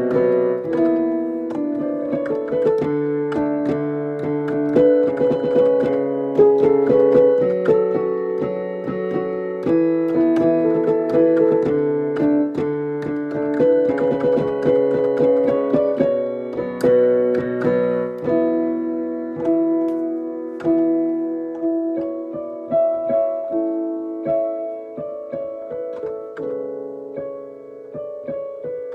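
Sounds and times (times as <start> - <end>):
piano playing: 0.0 - 28.9.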